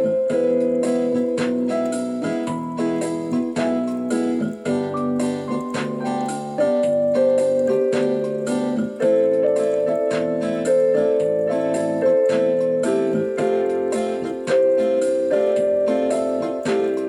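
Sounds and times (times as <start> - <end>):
piano playing sustained chords: 0.0 - 17.0.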